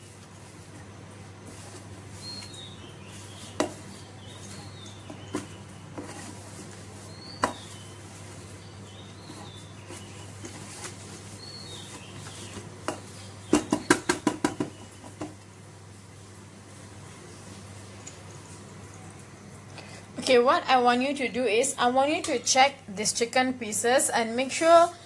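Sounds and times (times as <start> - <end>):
hands working food in flour: 0.0 - 20.9.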